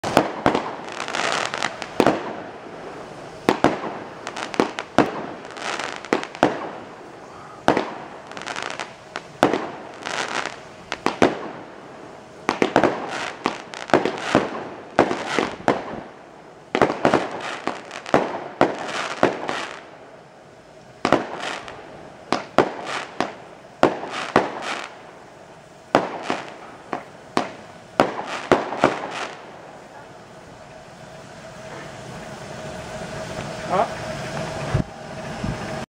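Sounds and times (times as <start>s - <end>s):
firework shells bursting: 0.0s - 19.9s, 20.8s - 29.9s
crackling hiss of sparks: 0.0s - 35.8s.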